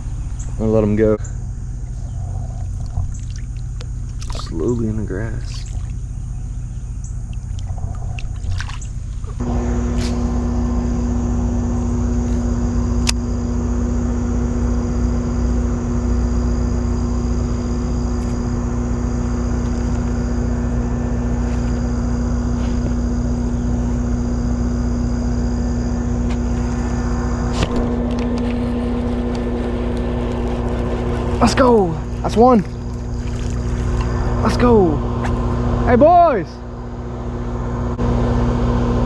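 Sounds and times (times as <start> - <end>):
machine hum over low rumble: 0.0 - 39.0.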